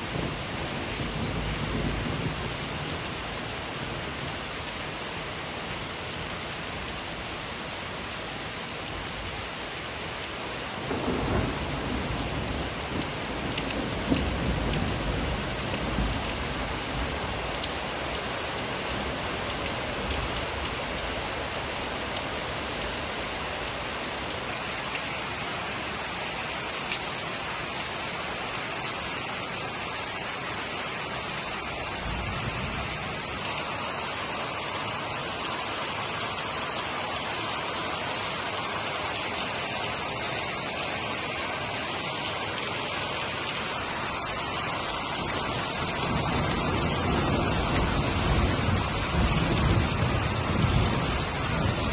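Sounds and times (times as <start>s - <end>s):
heavy rain hissing: 0.0s - 51.9s.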